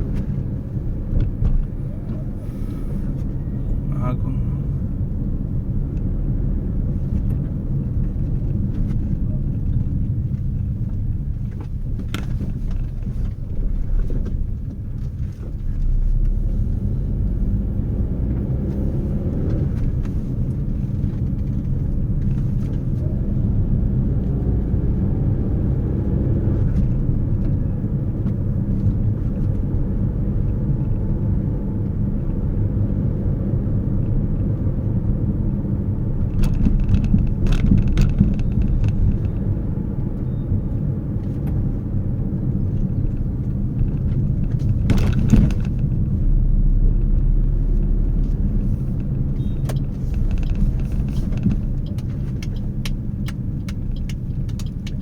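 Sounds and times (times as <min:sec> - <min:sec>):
motor vehicle rumbling: 0:00.0 - 0:55.0.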